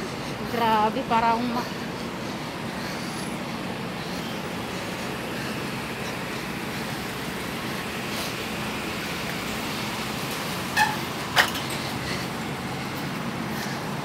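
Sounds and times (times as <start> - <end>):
city traffic passing: 0.0 - 14.0.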